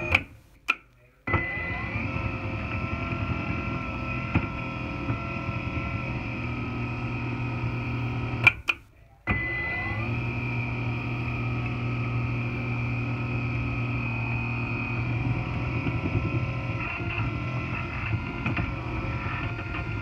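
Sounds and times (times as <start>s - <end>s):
stairlift motor humming and whining: 0.0s - 0.3s, 1.3s - 20.0s.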